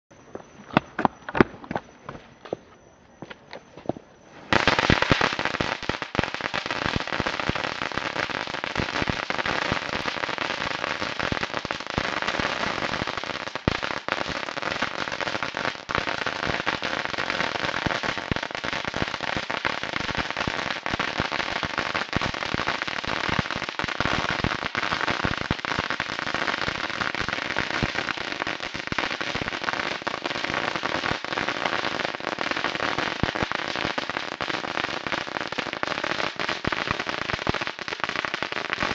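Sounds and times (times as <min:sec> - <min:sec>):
firecrackers popping: 0:04.5 - 0:38.9.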